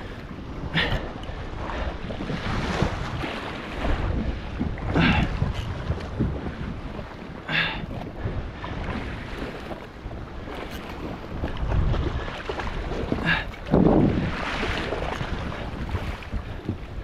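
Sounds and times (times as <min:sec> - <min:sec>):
waves washing against hull: 0:00.0 - 0:17.0
wind buffeting microphone: 0:00.0 - 0:17.0.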